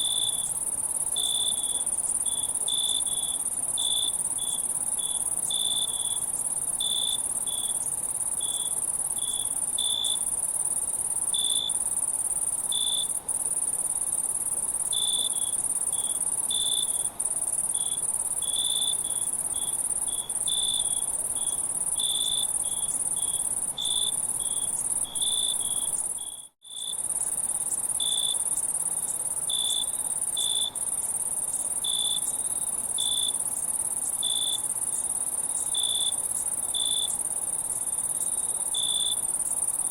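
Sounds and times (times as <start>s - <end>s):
cricket-like chirps: 0.0s - 39.9s
insect high-pitched trill: 0.0s - 39.9s.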